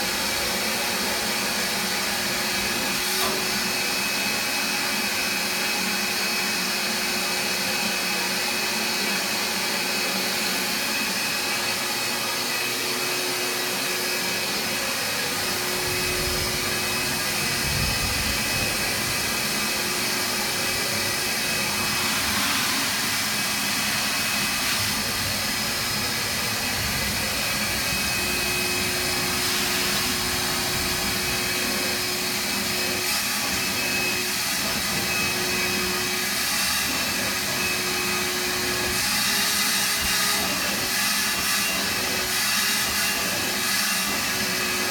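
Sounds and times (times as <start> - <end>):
shop vac running: 0.0 - 44.9.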